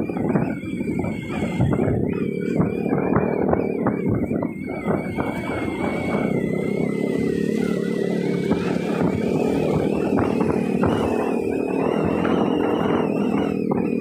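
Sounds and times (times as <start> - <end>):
motorcycle engine running: 0.0 - 14.0
thin high whine: 0.0 - 14.0.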